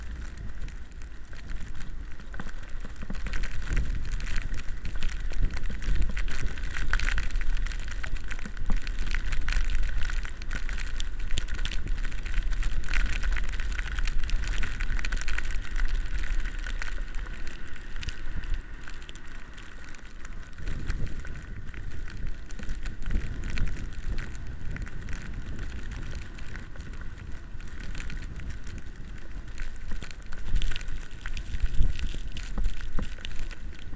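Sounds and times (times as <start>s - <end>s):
wind buffeting microphone: 0.0s - 19.1s, 20.4s - 33.9s
tyres crackling in snow: 0.0s - 33.9s.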